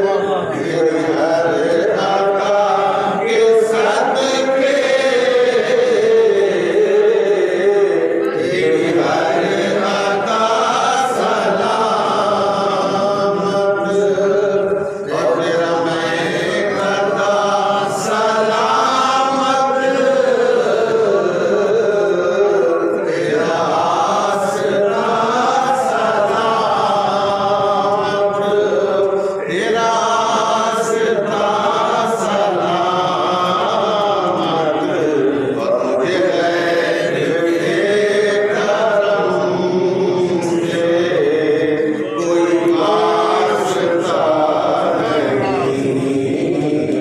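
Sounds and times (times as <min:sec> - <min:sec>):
men chanting a devotional song: 0:00.0 - 0:47.0.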